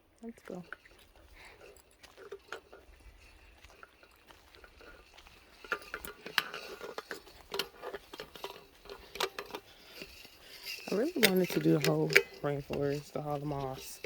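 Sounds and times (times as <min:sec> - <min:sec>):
footsteps clicking and scuffing: 0:00.1 - 0:14.0.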